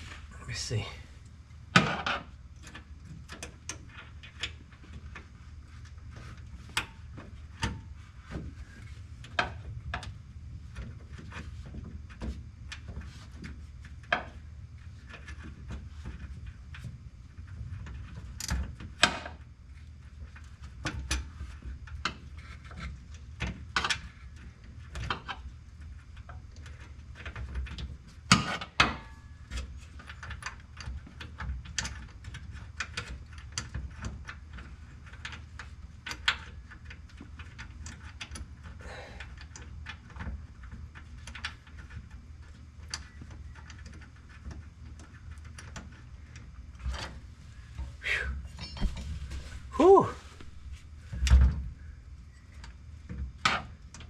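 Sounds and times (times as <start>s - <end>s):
low steady hum: 0.0s - 28.3s, 29.0s - 54.0s.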